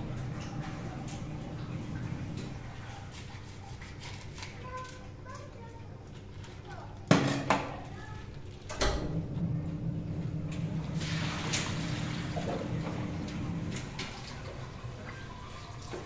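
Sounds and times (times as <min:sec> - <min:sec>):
water running: 0:00.0 - 0:04.1, 0:05.9 - 0:16.0.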